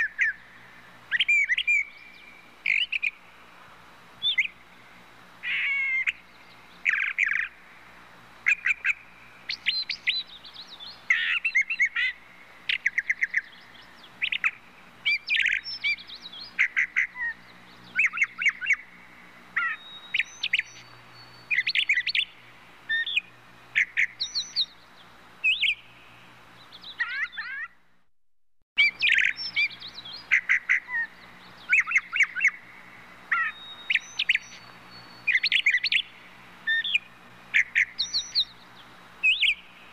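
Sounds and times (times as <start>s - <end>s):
birds chirping and twittering: 0.0s - 27.8s, 28.8s - 39.9s.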